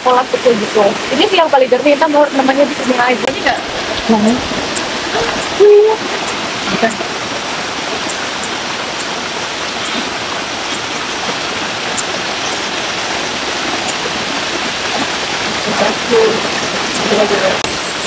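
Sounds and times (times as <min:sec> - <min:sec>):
water pouring from spouts: 0:00.0 - 0:18.0
water rushing along stone channel: 0:00.0 - 0:18.0.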